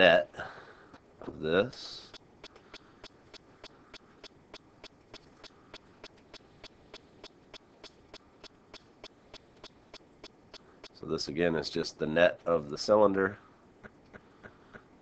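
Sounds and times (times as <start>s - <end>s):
low hiss: 0.0s - 15.0s
faint steady ticking clicks: 0.4s - 15.0s.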